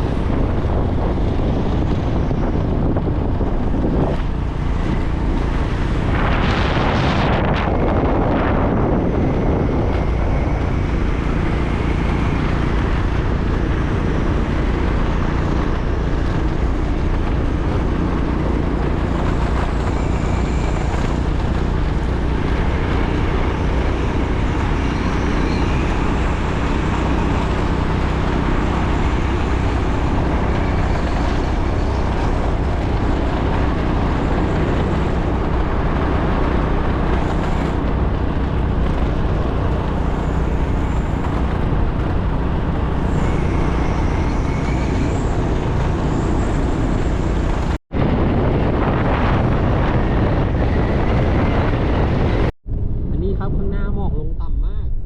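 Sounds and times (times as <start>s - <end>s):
low engine hum: 0.0s - 55.0s
road and wind noise: 0.0s - 55.0s.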